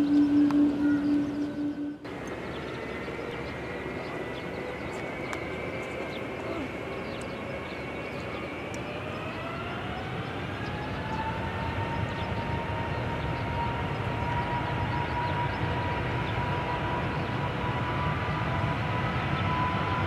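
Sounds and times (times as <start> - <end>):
engine rumble: 0.0 - 20.0
jet engines whining: 0.0 - 20.0.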